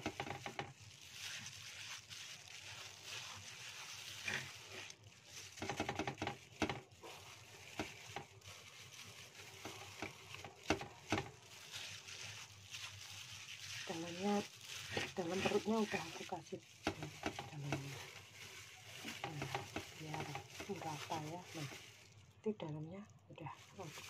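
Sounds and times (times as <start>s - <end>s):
wet paste squishing: 0.0s - 22.4s
plastic glove crinkling: 0.0s - 24.0s.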